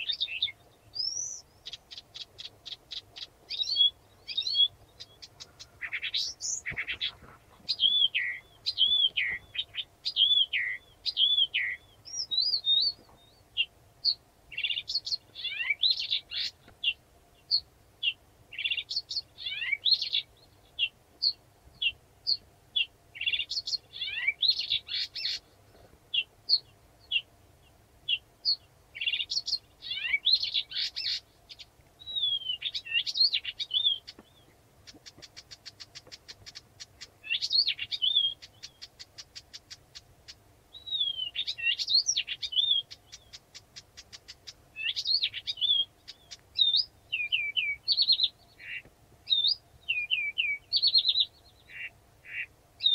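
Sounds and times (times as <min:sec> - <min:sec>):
reed warbler singing: 0:00.0 - 0:52.9.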